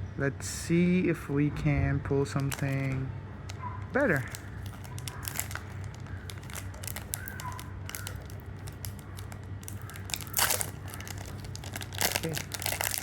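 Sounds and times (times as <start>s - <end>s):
foil wrapper crinkling and tearing: 2.4s - 13.0s.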